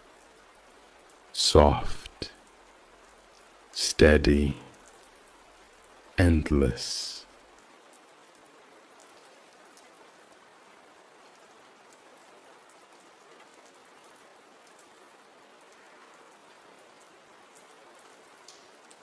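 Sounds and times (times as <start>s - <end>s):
soft rain hiss: 0.0s - 19.0s
raindrop ticks: 1.9s - 10.4s, 11.2s - 19.0s.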